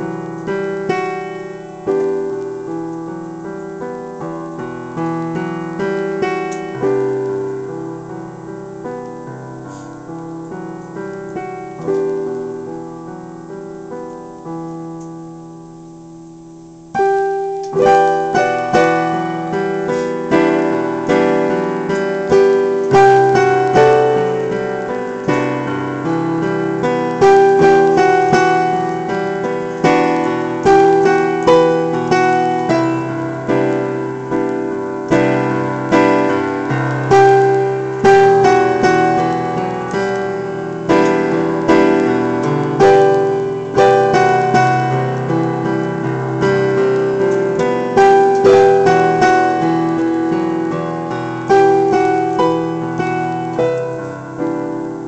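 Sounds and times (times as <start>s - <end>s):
electronic keyboard piano piece: 0.0s - 55.0s.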